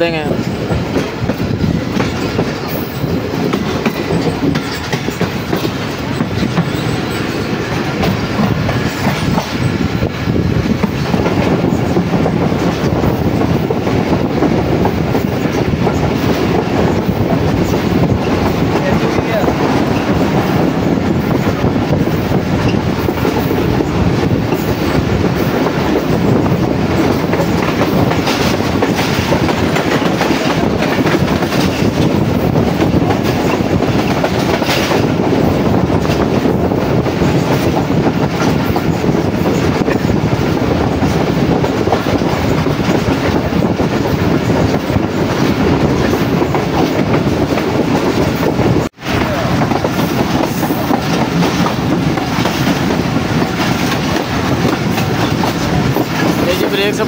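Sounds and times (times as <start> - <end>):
express train running at speed: 0.0 - 57.0.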